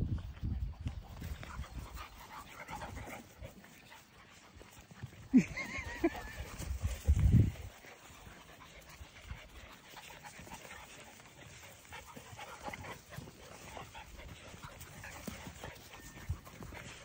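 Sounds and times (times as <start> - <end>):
puppies panting: 0.1 - 17.0.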